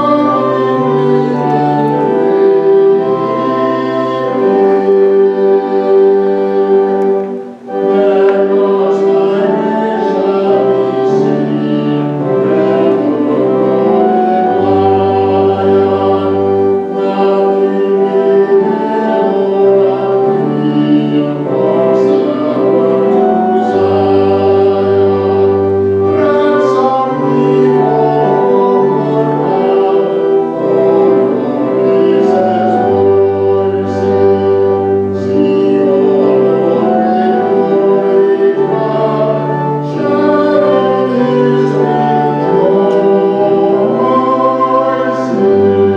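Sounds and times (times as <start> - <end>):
choir singing with accompaniment: 0.0 - 45.9.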